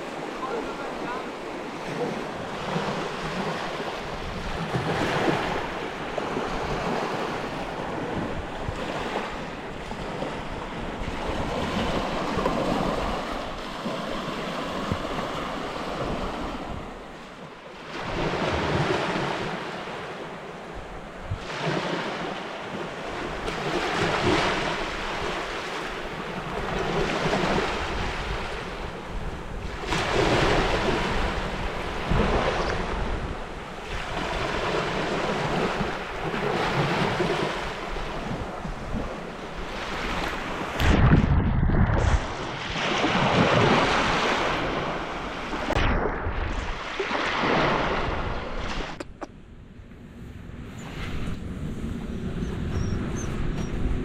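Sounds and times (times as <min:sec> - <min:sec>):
wind buffeting microphone: 0:00.0 - 0:17.2, 0:20.6 - 0:54.0
wind rushing in gusts: 0:00.0 - 0:20.0, 0:20.6 - 0:54.0.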